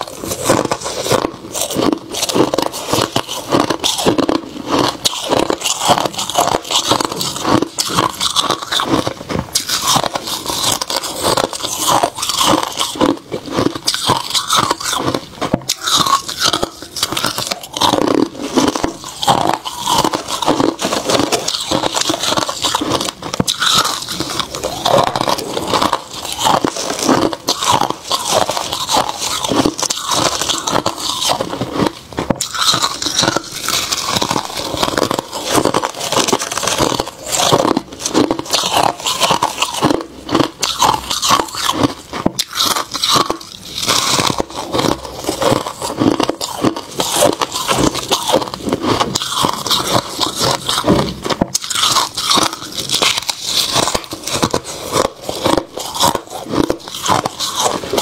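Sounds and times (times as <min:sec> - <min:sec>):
frost being chewed: 0:00.0 - 0:58.0.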